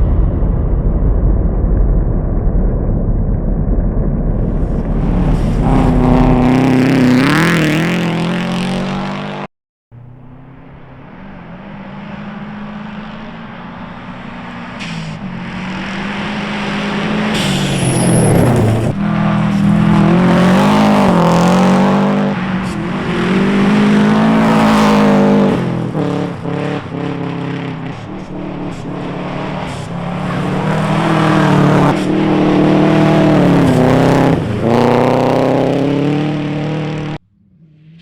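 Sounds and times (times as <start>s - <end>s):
rally car approaching: 3.6s - 38.0s
rally car engine revving past: 4.6s - 38.0s.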